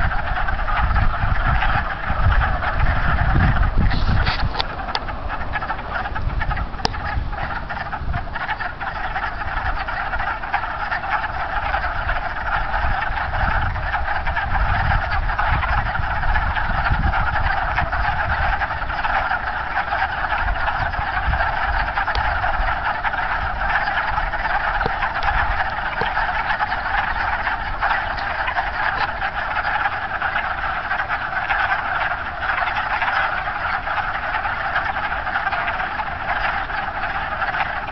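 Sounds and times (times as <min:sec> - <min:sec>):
frogs calling in chorus: 0:00.0 - 0:37.9.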